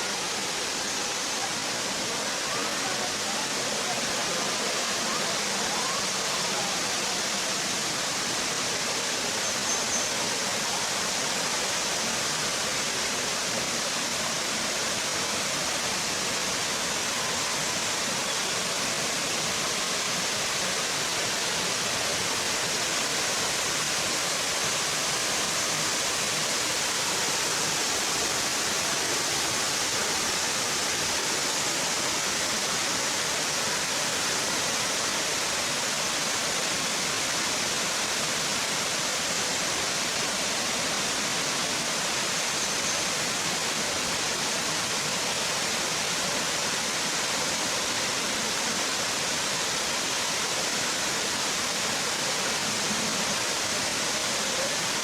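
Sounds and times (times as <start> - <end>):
waterfall cascading: 0.0 - 55.0.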